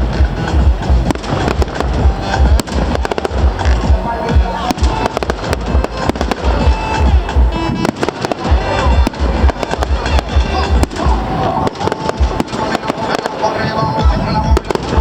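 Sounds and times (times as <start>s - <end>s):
deep fireworks booms: 0.0s - 15.0s
fireworks crackling and popping: 0.0s - 15.0s
music playing: 0.0s - 15.0s.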